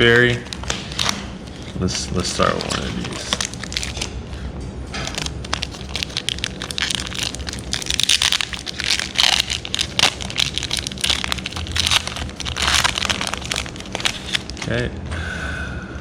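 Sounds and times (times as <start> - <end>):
foil wrapper tearing and crinkling: 0.0 - 4.2, 5.0 - 14.7.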